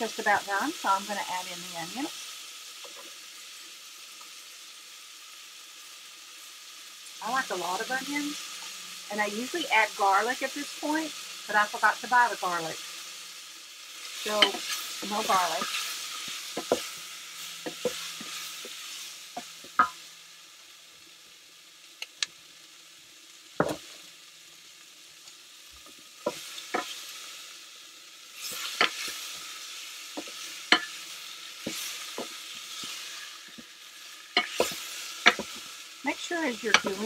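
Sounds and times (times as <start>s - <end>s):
meat and onions sizzling: 0.0s - 37.0s.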